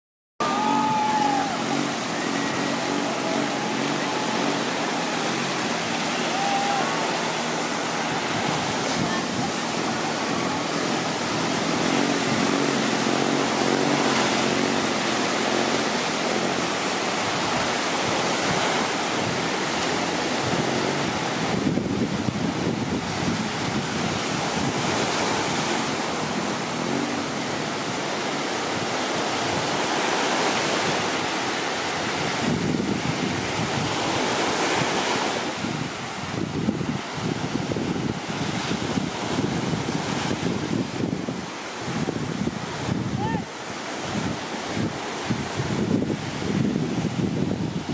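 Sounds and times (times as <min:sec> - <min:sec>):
surf breaking on shore: 0:00.4 - 0:47.9
wind buffeting microphone: 0:00.4 - 0:47.9.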